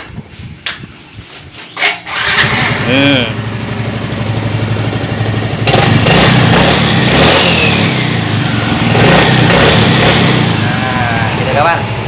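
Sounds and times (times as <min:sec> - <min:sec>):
scooter engine revving: 0:02.0 - 0:12.0.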